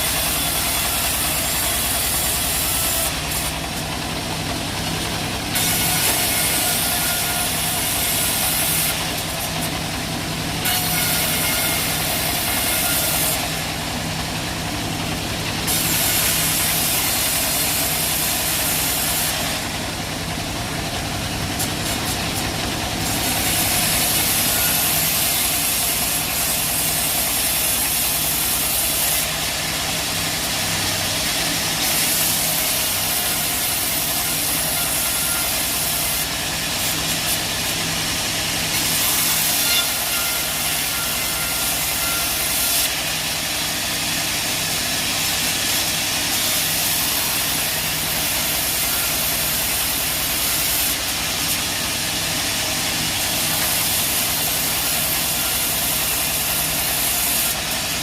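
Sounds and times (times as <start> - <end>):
high hiss of saw blade cutting wood: 0.0 - 19.8, 21.5 - 58.0
bandsaw sawmill running: 0.0 - 58.0.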